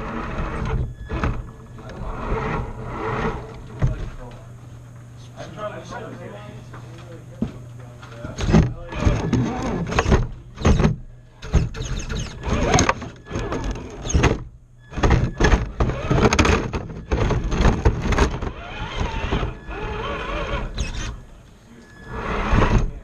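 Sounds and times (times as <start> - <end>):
electric motor and gears whining: 0.0 - 5.8, 6.8 - 23.0.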